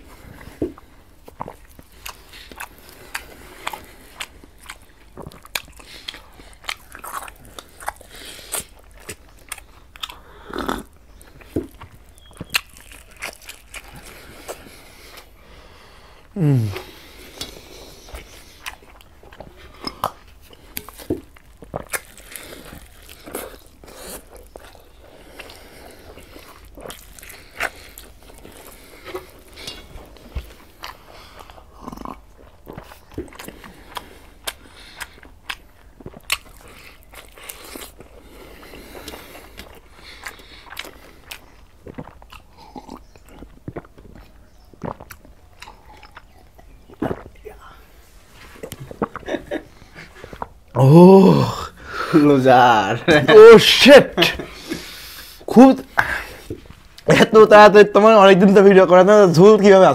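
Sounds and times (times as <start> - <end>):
man chewing with wet mouth clicks: 0.0 - 15.4, 16.2 - 50.8.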